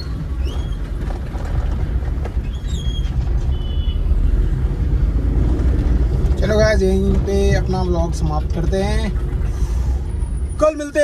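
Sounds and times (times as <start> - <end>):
engine and road noise rumble: 0.0 - 11.0.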